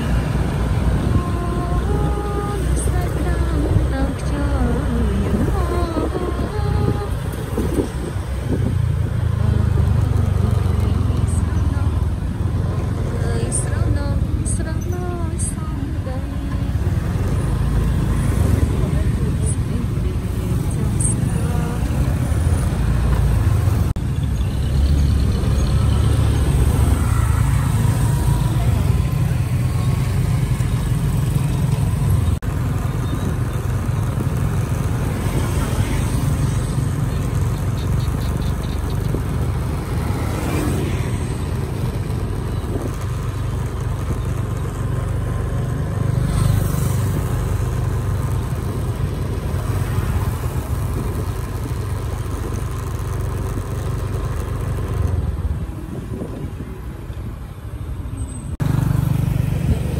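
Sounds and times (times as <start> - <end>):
road traffic of cars and motorbikes: 0.0 - 59.9
vehicles passing close: 0.0 - 59.9.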